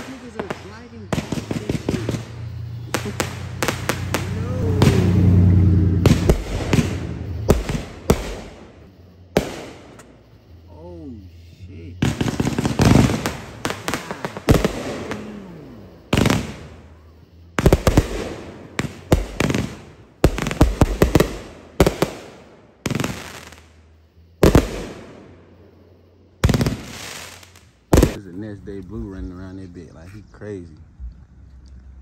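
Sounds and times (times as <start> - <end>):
fireworks bangs with crackling: 0.0 - 10.3, 11.7 - 23.8, 24.4 - 25.8, 26.4 - 28.6.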